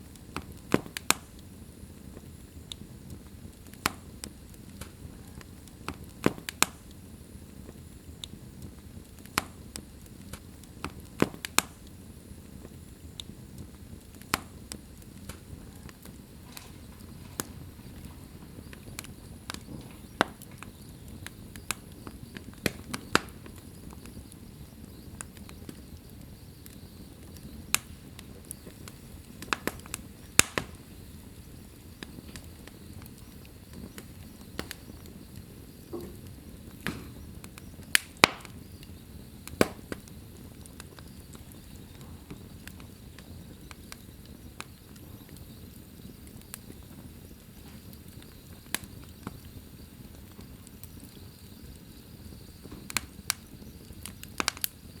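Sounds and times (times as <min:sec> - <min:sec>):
burning logs crackling and popping: 0:00.0 - 0:55.0
rush of flames: 0:00.0 - 0:55.0.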